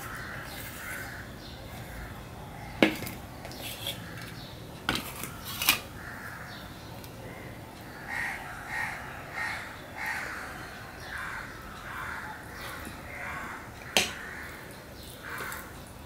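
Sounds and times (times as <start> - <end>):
crows cawing: 0.0 - 2.9, 5.3 - 15.8.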